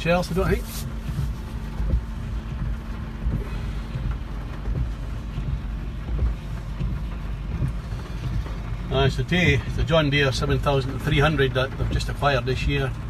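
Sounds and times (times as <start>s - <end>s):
low rumbling: 0.0s - 13.0s
low steady hum: 0.0s - 13.0s
rain on a car: 0.0s - 13.0s.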